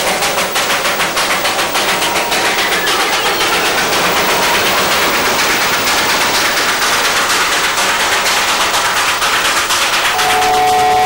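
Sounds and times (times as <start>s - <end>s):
fast rattling clatter: 0.0s - 11.0s.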